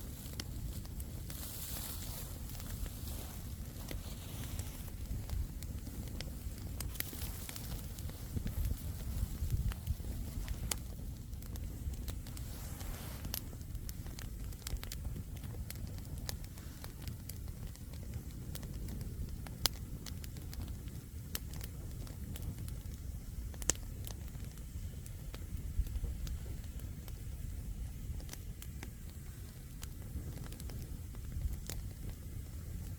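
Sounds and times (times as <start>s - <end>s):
campfire flames rushing: 0.0s - 32.9s
fire crackling and popping: 0.0s - 32.9s.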